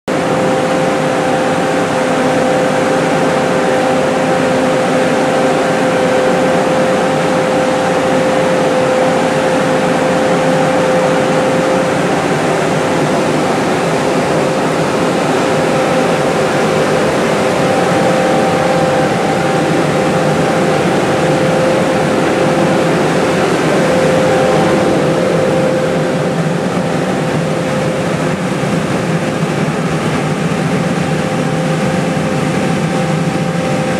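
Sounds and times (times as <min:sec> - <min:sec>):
constant fan whine: 0:00.0 - 0:33.9
sprayer fan rushing air: 0:00.1 - 0:33.9.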